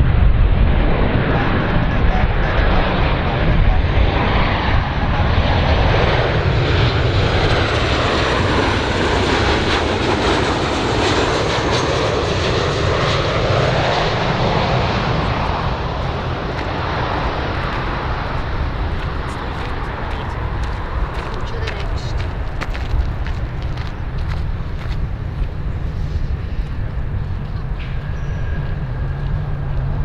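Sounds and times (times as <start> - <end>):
faint high engine whine: 0.0 - 30.0
jet engine rushing rumble: 0.0 - 30.0.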